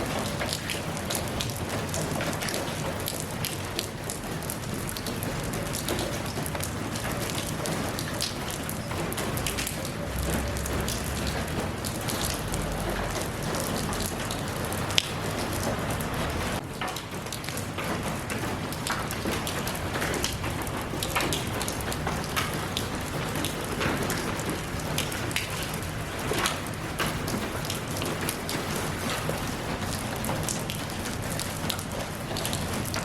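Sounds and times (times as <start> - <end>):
raindrops ticking on a surface: 0.0 - 33.0
steady rain falling: 0.0 - 33.0.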